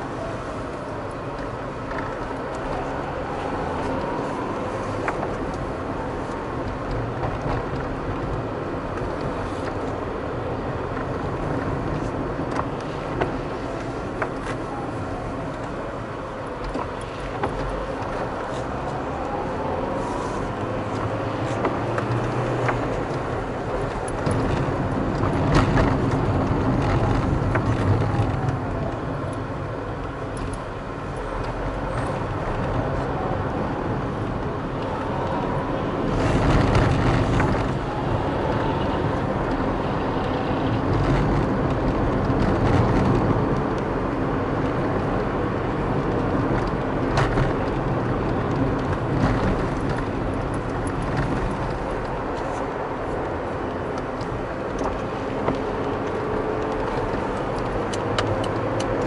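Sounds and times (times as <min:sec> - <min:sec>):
car engine: 0:00.0 - 0:59.0
tyre road noise: 0:00.0 - 0:59.0.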